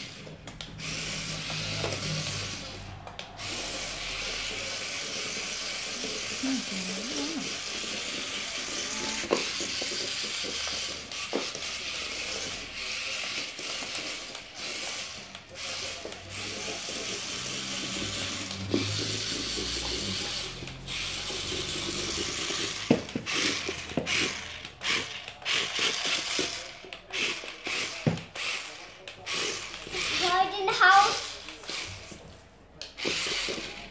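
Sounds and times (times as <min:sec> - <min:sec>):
toy motor whirring: 0:00.0 - 0:32.2, 0:32.8 - 0:33.9.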